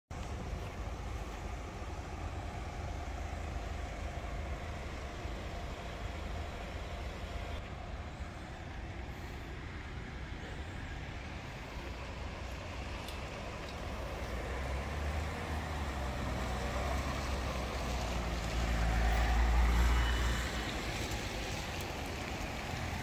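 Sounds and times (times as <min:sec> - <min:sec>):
car engines idling: 0:00.1 - 0:23.0.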